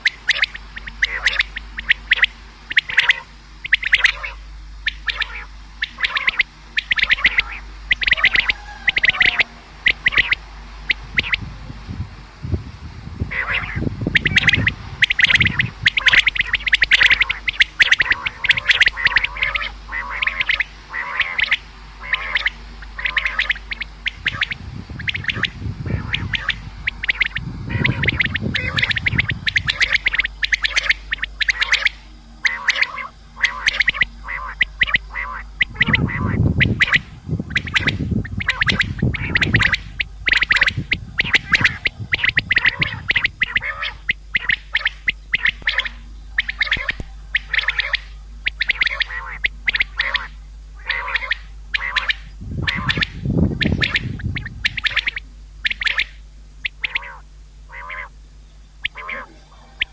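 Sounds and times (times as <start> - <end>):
quail calling: 0.0 - 12.5, 13.2 - 59.9
low rumbling: 0.0 - 59.9.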